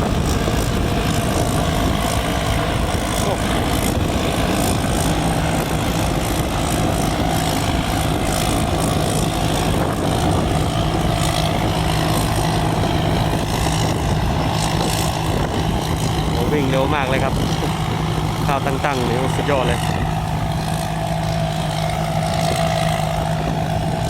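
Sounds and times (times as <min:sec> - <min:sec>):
combine harvester engine humming: 0:00.0 - 0:24.0
noisy wash of machinery: 0:00.0 - 0:24.0.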